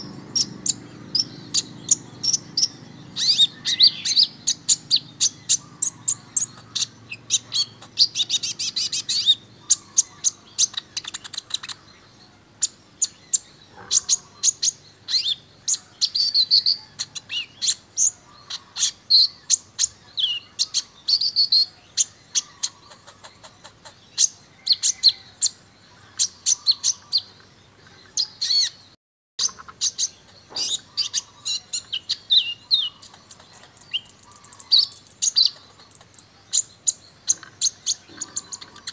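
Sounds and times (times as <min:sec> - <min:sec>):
sunbird singing chirps and trills: 0:00.0 - 0:38.9.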